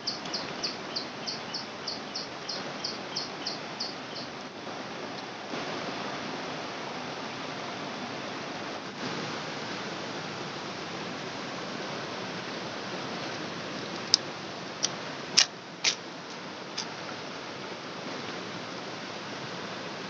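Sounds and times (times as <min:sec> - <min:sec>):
river flowing over rocks: 0:01.7 - 0:20.0.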